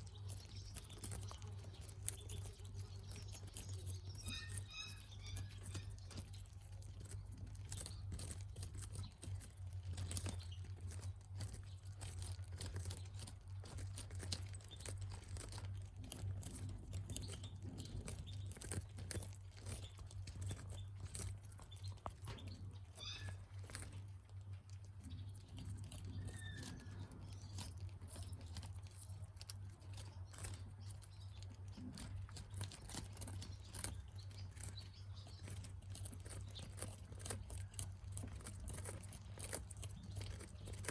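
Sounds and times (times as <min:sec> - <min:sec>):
birds pecking and crunching food: 0:00.0 - 0:40.9
steady low hum: 0:00.0 - 0:40.9.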